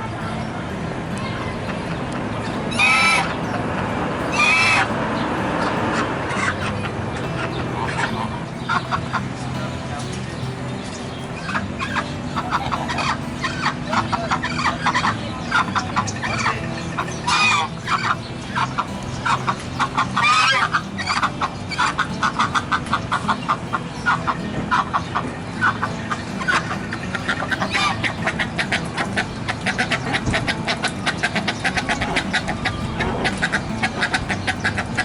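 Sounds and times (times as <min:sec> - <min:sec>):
poultry calling: 0:00.0 - 0:35.0.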